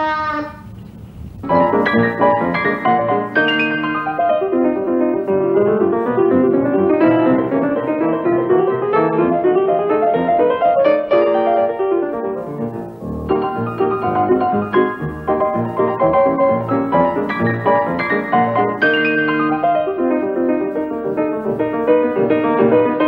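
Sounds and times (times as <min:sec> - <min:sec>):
instrumental music: 0:00.0 - 0:23.0.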